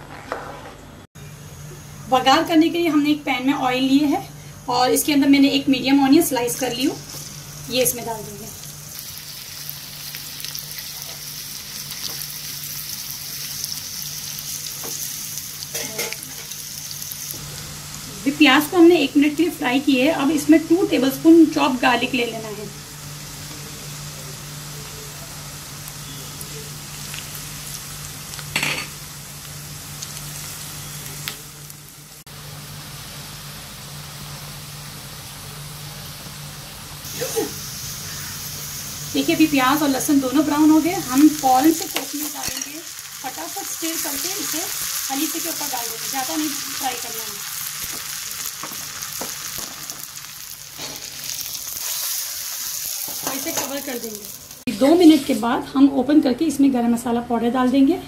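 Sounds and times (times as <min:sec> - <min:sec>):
onions sizzling in hot oil: 0:02.1 - 0:55.6.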